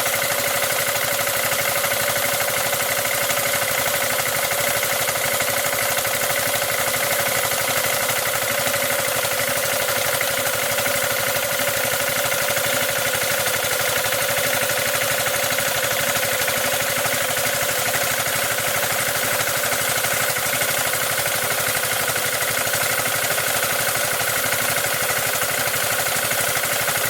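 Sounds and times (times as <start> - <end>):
power sprayer engine clattering: 0.0 - 27.0.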